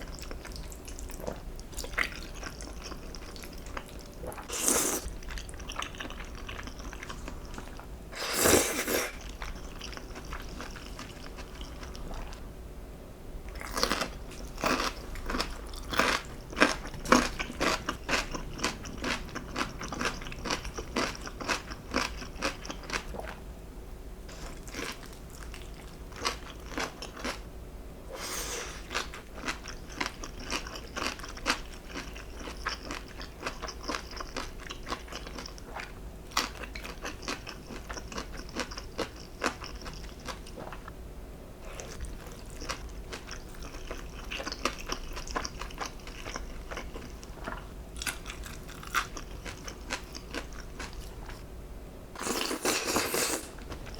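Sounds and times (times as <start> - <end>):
crunchy food chewing: 0.0 - 12.4, 13.5 - 23.4, 24.3 - 27.4, 28.2 - 40.9, 41.6 - 51.4, 52.2 - 53.9.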